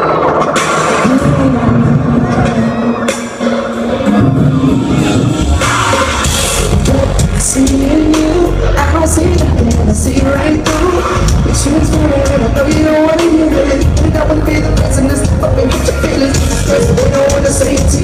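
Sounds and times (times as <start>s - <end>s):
drums: 0.0s - 18.0s
live band music: 0.0s - 18.0s
person singing: 0.0s - 18.0s.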